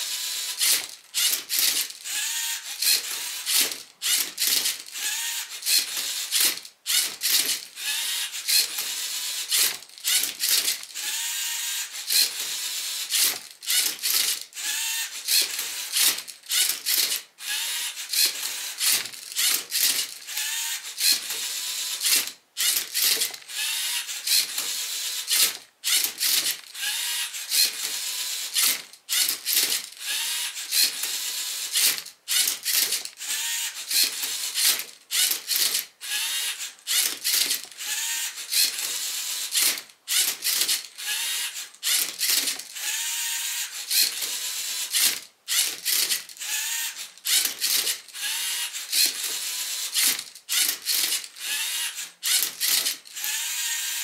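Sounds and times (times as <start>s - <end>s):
servo motors whirring: 0.0s - 54.0s.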